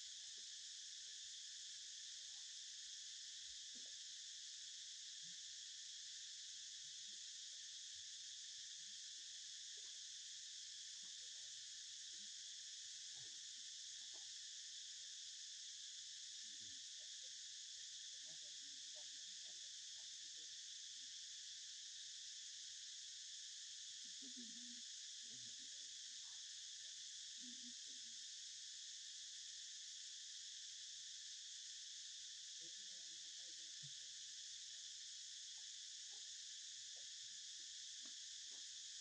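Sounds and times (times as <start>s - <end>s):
insect chorus drone: 0.0s - 39.0s.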